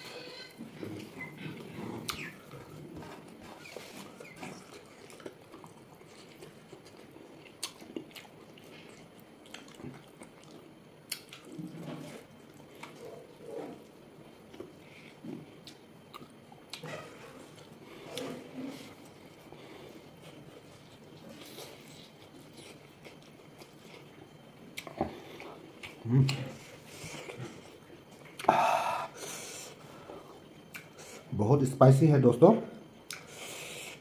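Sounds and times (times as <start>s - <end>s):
person chewing meat: 0.2s - 29.8s, 30.6s - 31.3s, 33.0s - 34.0s.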